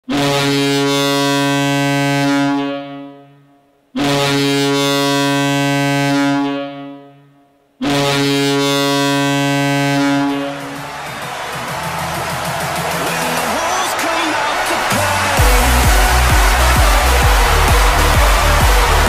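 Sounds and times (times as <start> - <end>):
arena goal horn blasts: 0.1 - 19.0.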